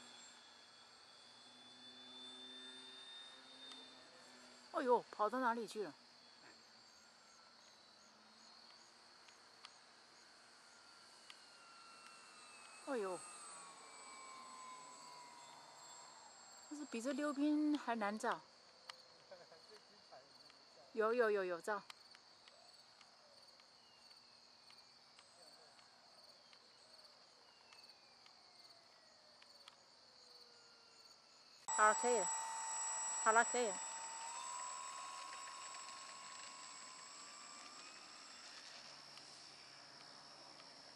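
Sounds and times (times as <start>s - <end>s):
distant model airplane motor whine: 0.0s - 20.5s, 22.4s - 40.9s
faint outdoor hiss: 0.0s - 40.9s
high insect chirp: 0.0s - 40.9s.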